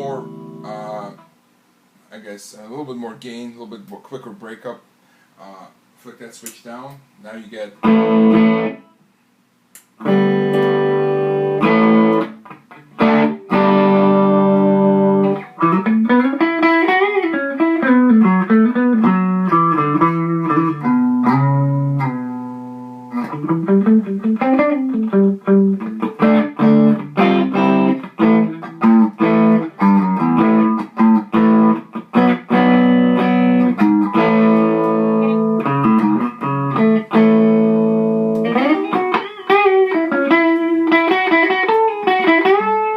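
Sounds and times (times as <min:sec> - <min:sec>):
electric guitar chords: 0:00.0 - 0:01.4, 0:07.8 - 0:09.0, 0:09.8 - 0:42.9
electric guitar lead lines: 0:00.0 - 0:01.4, 0:07.4 - 0:09.0, 0:09.7 - 0:42.9.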